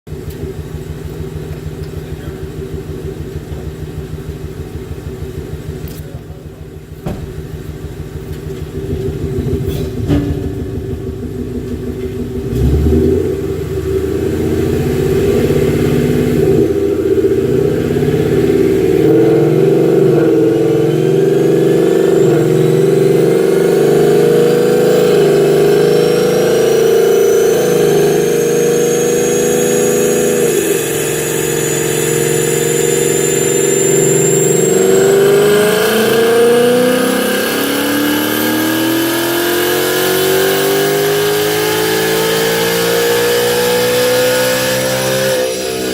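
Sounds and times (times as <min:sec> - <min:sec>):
loud car engine revving: 0:00.1 - 0:45.9.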